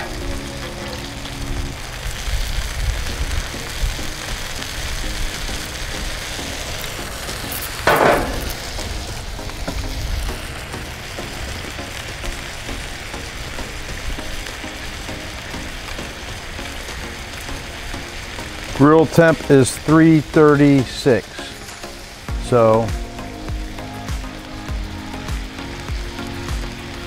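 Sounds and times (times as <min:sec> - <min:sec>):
bacon sizzling on a griddle: 0:00.0 - 0:27.0.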